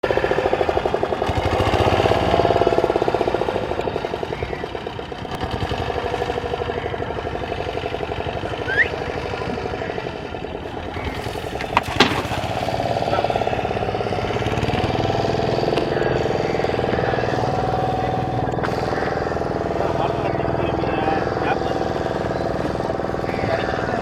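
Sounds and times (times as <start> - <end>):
boat engine running steadily: 0.0 - 24.0.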